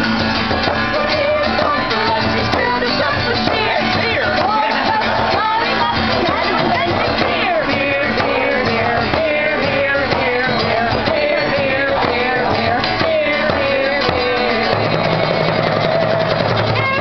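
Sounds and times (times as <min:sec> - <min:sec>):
acoustic guitar strumming: 0:00.0 - 0:17.0
frame drum beating: 0:00.0 - 0:17.0
people singing: 0:00.0 - 0:17.0.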